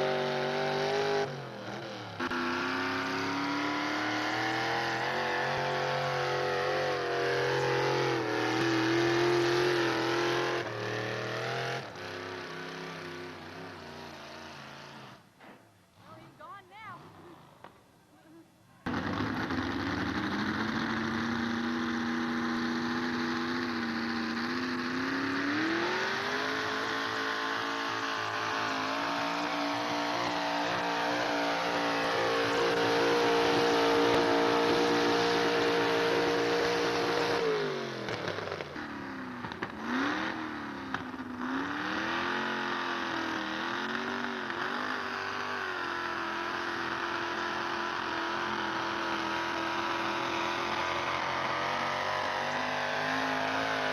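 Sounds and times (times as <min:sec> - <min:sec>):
truck engine revving hard: 0:00.0 - 0:15.2, 0:18.9 - 0:53.9.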